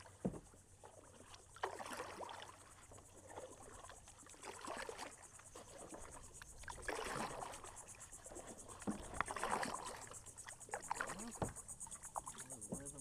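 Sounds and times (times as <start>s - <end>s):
paddles splashing in water: 0.0s - 13.0s.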